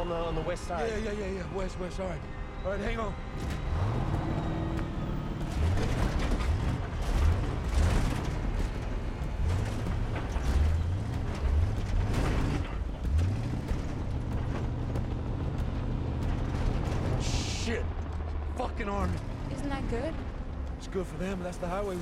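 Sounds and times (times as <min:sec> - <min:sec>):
truck engine revving: 0:00.0 - 0:22.0
truck body rattling and creaking: 0:01.3 - 0:22.0.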